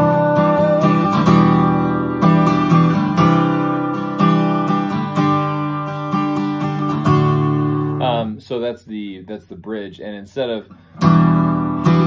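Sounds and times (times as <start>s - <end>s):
acoustic guitar strummed chords: 0.0s - 8.4s, 10.7s - 12.0s.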